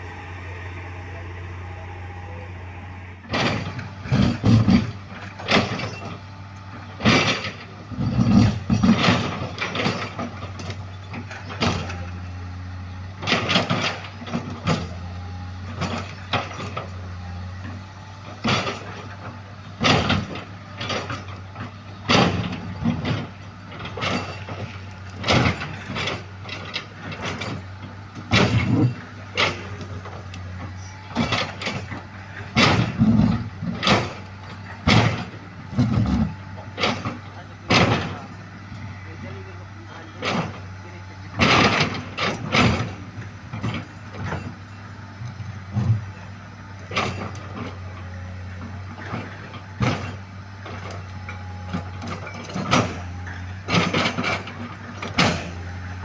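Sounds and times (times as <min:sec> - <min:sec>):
road-works machine engine running: 0:00.0 - 0:56.0
sharp metal clanks and knocks: 0:03.2 - 0:12.2, 0:13.2 - 0:56.0.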